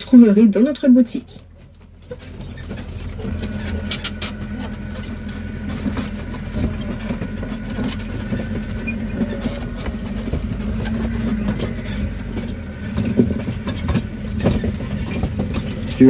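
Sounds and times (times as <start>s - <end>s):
train engine running: 0.0s - 16.0s.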